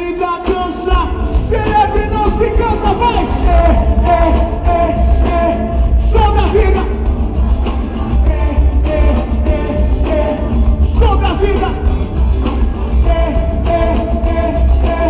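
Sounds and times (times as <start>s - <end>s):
live band music: 0.0s - 15.0s
person singing: 0.0s - 15.0s.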